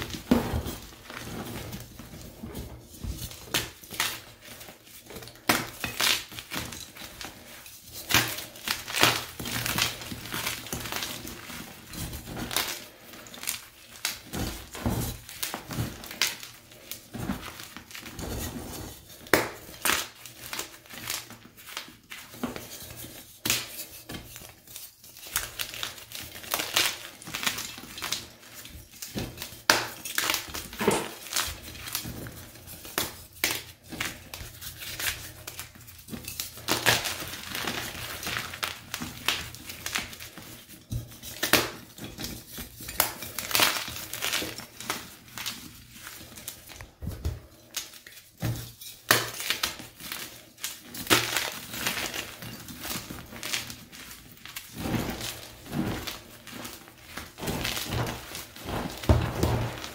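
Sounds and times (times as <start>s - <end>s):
chalk crunching and crackling: 0.0s - 46.9s, 47.7s - 59.9s.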